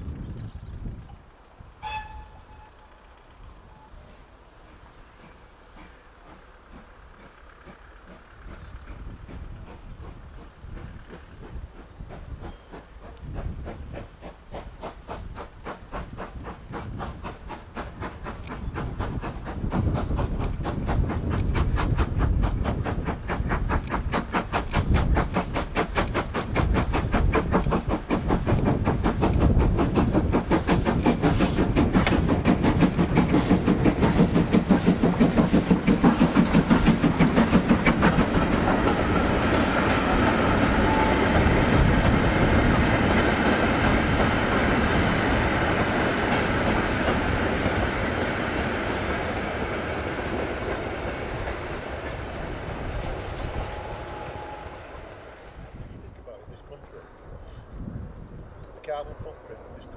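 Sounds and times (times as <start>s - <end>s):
steam locomotive chuffing: 0.1s - 59.9s.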